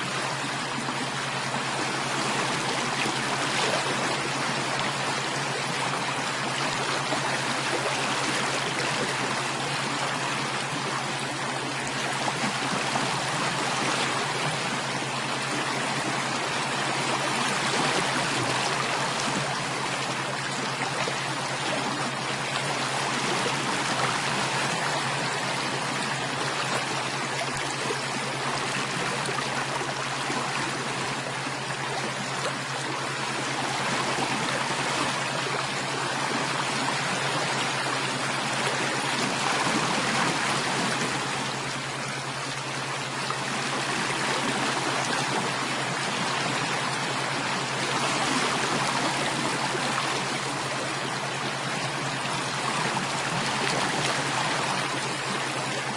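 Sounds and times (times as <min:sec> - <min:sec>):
stream water flowing and splashing: 0:00.0 - 0:55.9.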